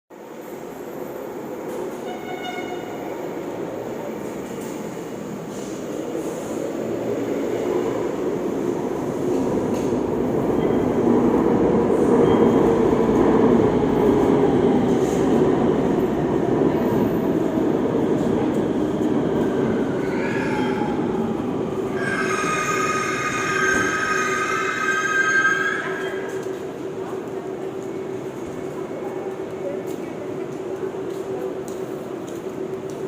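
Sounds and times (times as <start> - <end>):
train wheel-on-rail rumble: 0.1 - 33.0.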